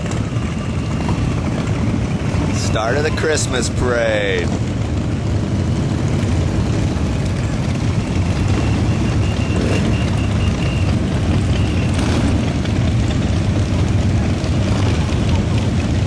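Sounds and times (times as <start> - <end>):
motorcycles riding past: 0.0 - 16.0.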